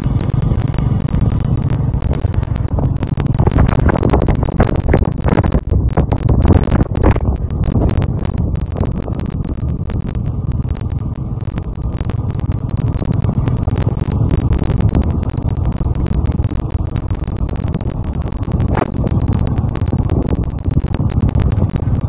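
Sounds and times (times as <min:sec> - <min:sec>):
vehicle noise: 0:00.0 - 0:22.0
wind buffeting microphone: 0:01.0 - 0:22.0.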